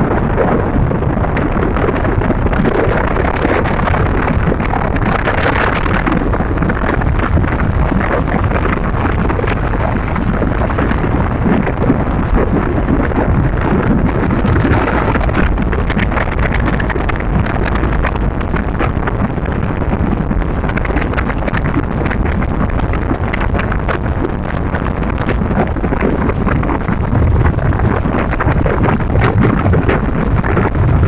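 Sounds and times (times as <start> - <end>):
car driving on paved road: 0.0 - 31.0
wind buffeting microphone: 0.0 - 31.0.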